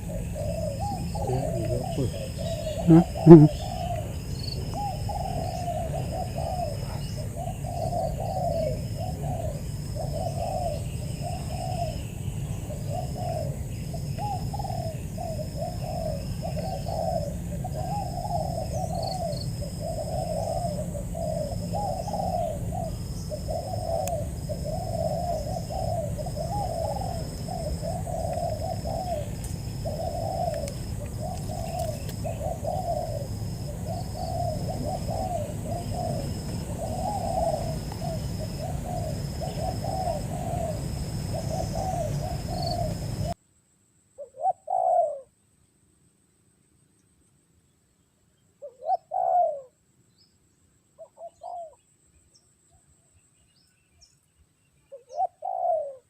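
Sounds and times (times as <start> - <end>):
doves cooing: 0.0 - 43.4, 44.2 - 45.3, 48.6 - 49.8, 51.0 - 51.8, 54.9 - 56.0.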